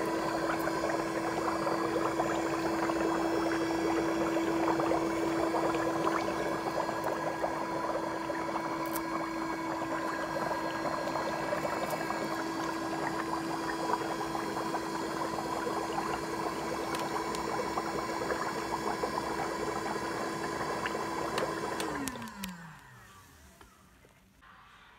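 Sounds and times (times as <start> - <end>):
air bubbles fizzing in water: 0.0 - 22.5
foot spa motor humming: 0.0 - 24.2.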